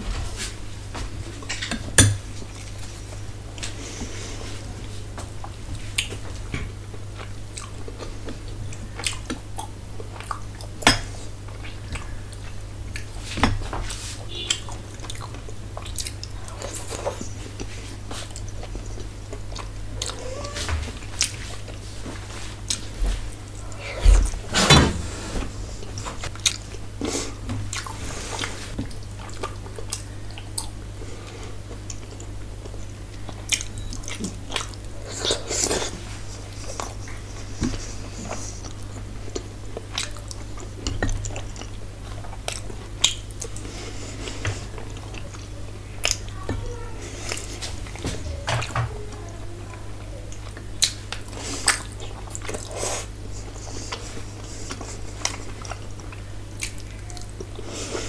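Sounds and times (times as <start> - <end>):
steady low hum: 0.0 - 58.0
person chewing with wet smacking: 5.2 - 13.5, 14.2 - 24.4, 25.8 - 30.8, 31.6 - 57.6.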